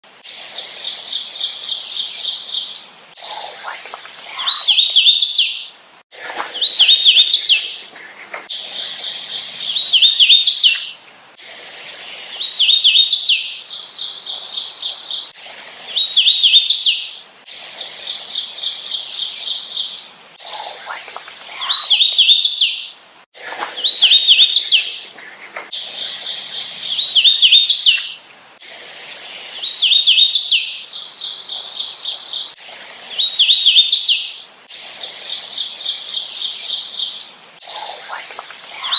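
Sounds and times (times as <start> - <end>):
warbler singing: 0.5 - 11.0, 11.7 - 17.2, 18.0 - 28.3, 29.1 - 34.4, 35.1 - 38.9.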